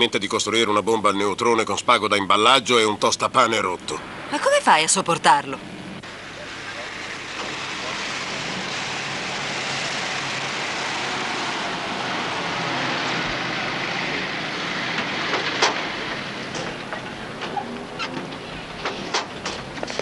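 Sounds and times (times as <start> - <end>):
van engine and road noise: 0.0 - 20.0.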